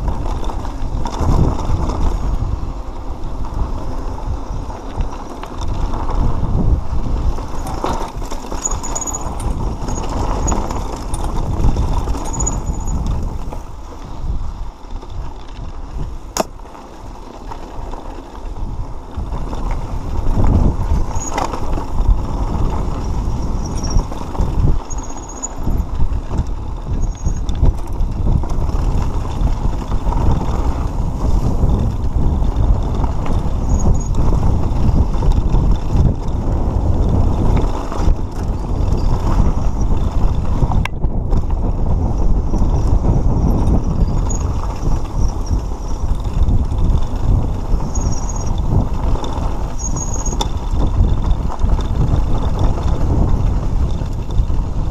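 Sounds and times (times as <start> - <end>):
bike tyres rattling over stones: 0.0 - 54.9.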